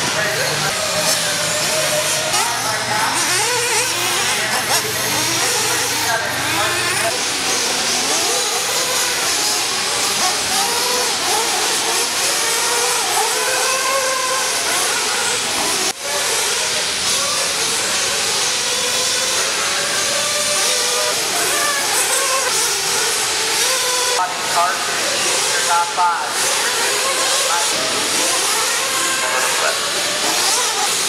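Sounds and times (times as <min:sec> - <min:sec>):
rc car motor whine: 0:00.0 - 0:31.0.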